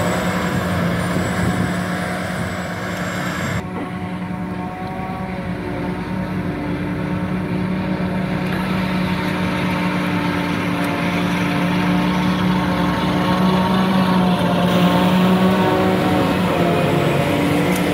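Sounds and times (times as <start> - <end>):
forage harvester engine humming: 0.0 - 17.9
tractor running: 0.0 - 17.9.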